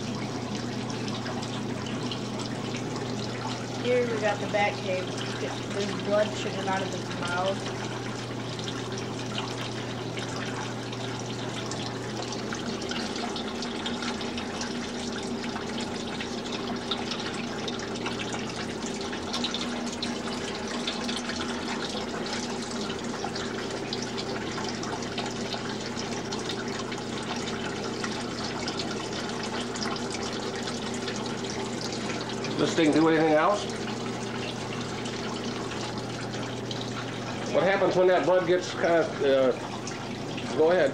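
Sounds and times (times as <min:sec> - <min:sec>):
fountain water trickling: 0:00.0 - 0:40.9.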